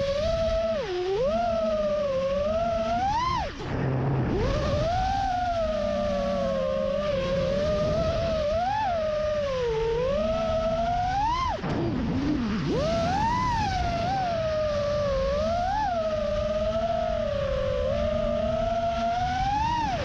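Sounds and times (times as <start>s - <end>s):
drone motors whining: 0.0s - 20.0s
wind rush: 0.0s - 20.0s.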